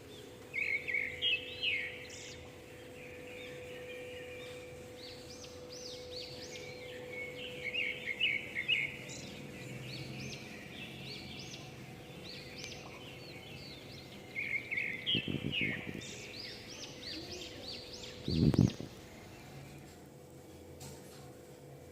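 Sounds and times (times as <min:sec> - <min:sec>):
small birds chirping: 0:00.0 - 0:20.6
steady low hum: 0:00.0 - 0:21.9.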